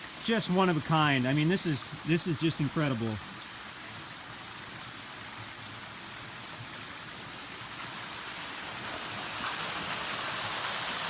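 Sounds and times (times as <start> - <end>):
creek flowing: 0.0 - 11.0
waterfall rushing: 0.0 - 11.0.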